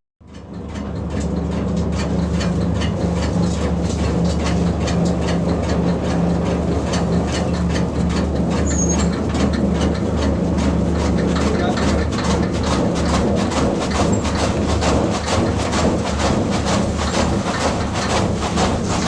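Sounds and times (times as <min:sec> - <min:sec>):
chaff cutter motor hum: 0:00.5 - 0:19.0.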